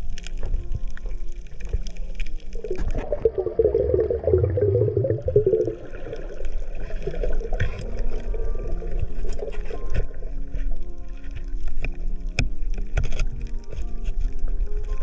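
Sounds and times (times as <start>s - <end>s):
underwater gurgling and bubbling: 0.0s - 15.0s.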